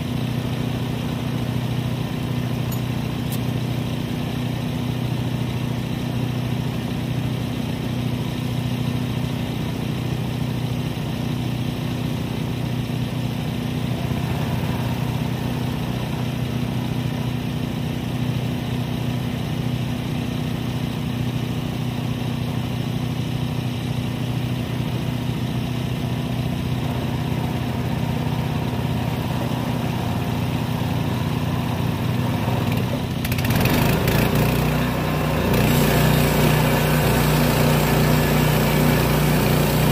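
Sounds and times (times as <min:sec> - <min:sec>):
sawmill engine idling: 0:00.0 - 0:39.9.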